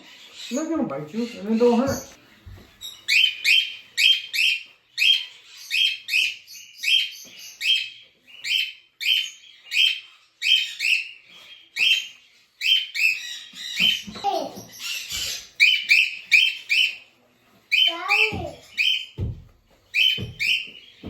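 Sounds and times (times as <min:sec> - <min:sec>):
parrot chirping: 0:00.0 - 0:02.2, 0:02.8 - 0:19.3, 0:19.9 - 0:21.0.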